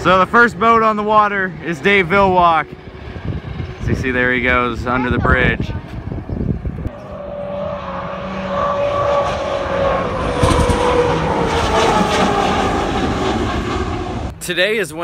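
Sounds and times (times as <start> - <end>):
turbine engine whine and roar: 0.0 - 15.0.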